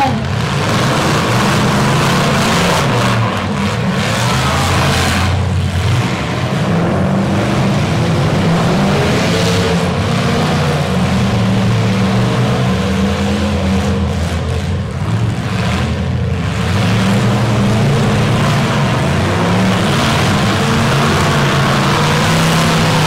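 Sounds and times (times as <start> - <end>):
truck engines revving: 0.0 - 23.0.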